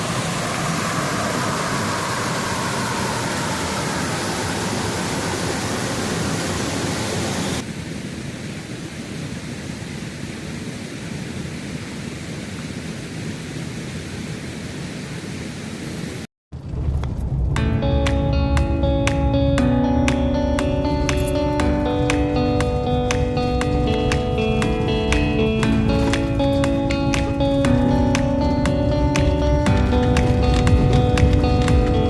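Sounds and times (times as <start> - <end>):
waterfall and stream rushing: 0.0 - 16.3, 18.0 - 32.0.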